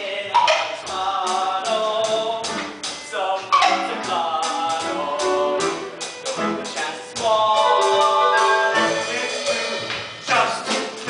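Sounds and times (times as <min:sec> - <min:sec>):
band playing with steady beat: 0:00.0 - 0:11.0
person singing: 0:00.0 - 0:11.0.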